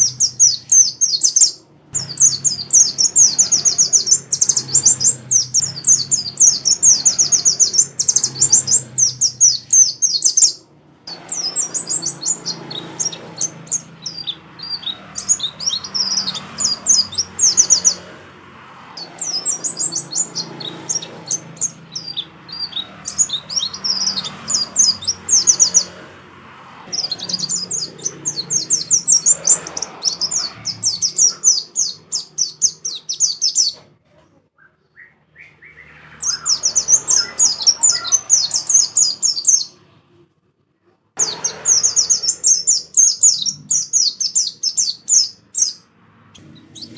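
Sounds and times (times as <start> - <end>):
bird singing rapid high notes: 0.0 - 33.8, 34.6 - 40.0, 41.2 - 46.9.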